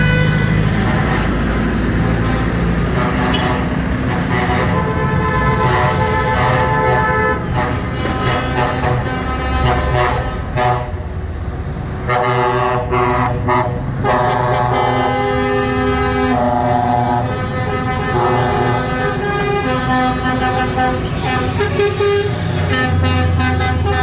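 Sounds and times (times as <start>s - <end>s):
engines running: 0.0s - 24.0s
truck horns tooting: 0.0s - 24.0s.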